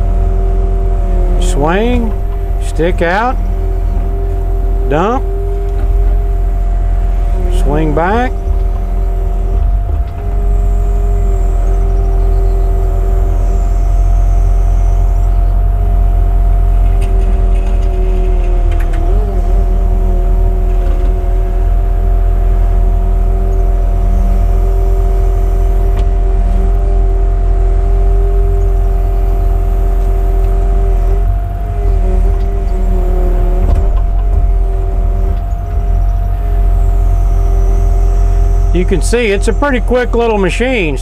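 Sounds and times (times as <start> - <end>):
excavator whine: 0.0 - 41.0
low diesel rumble: 0.0 - 41.0.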